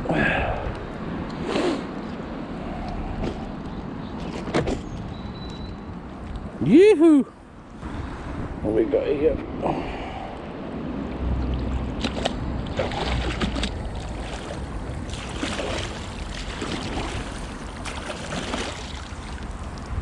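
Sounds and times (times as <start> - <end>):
wind rumbling on microphone: 0.0 - 6.7, 7.4 - 20.0.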